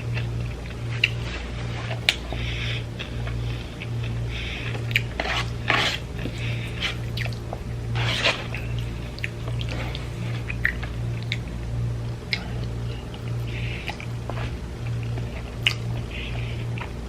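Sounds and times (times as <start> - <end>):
chewing and mouth smacks: 0.0 - 17.0
steady low hum: 0.0 - 17.0.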